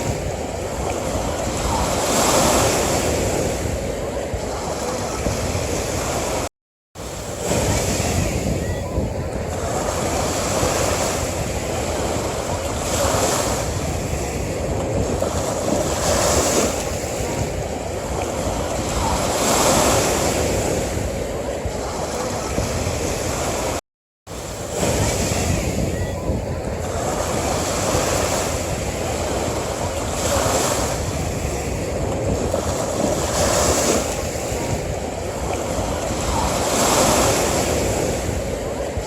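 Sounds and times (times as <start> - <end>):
ocean waves breaking: 0.0 - 39.0.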